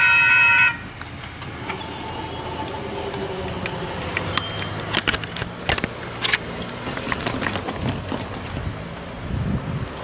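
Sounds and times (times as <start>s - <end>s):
car road rumble: 0.0s - 10.0s
tyres clacking over rails: 0.8s - 9.1s.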